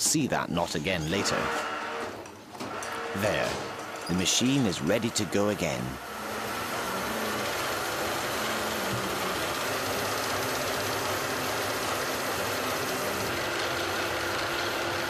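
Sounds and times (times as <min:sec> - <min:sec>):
warping machine running: 0:01.1 - 0:15.0.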